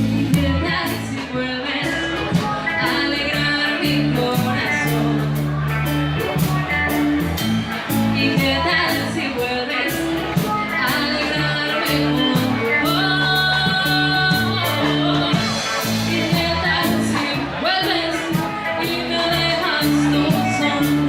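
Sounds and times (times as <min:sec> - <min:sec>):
bass notes: 0:00.0 - 0:21.0
drums with regular beat: 0:00.0 - 0:21.0
live band playing: 0:00.0 - 0:21.0
person singing: 0:00.0 - 0:21.0.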